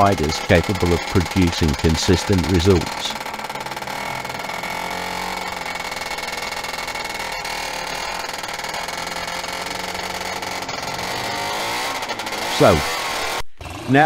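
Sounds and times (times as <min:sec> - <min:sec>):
two-stroke motorcycle engine: 0:00.0 - 0:14.0.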